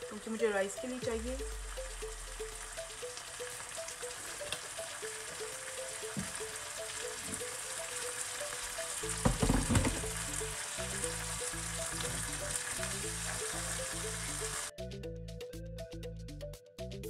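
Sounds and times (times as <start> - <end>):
vegetables sizzling in hot oil: 0.0 - 14.7
background music: 0.0 - 17.0.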